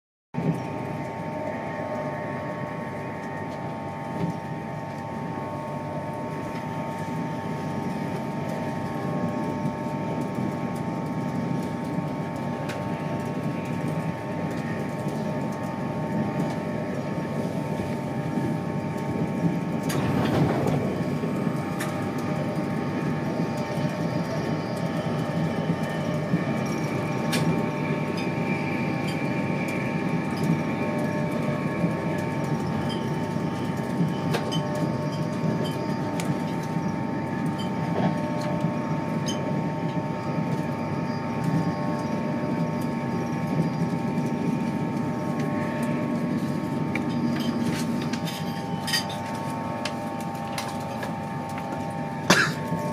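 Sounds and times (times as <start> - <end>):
constant whine: 0.4 - 52.9
train wheels rumbling on rail: 0.4 - 52.9.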